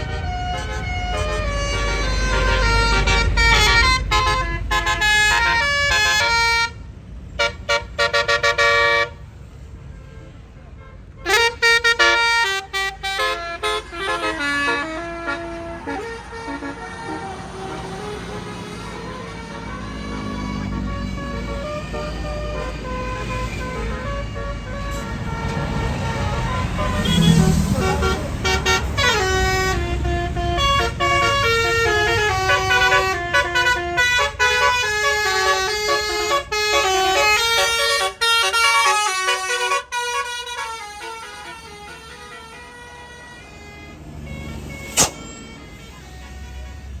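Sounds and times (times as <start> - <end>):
bus engine rumble: 0.0 - 47.0
bus horn playing a tune: 0.0 - 47.0.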